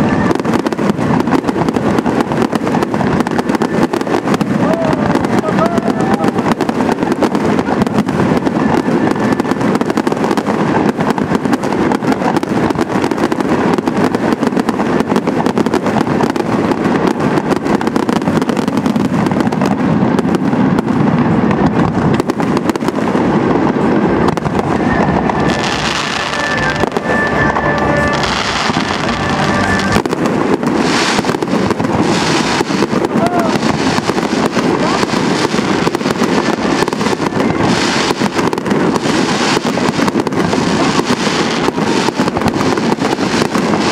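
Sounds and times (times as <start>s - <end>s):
fireworks bursts and bangs: 0.0s - 43.9s
fireworks high crackling: 0.0s - 43.9s.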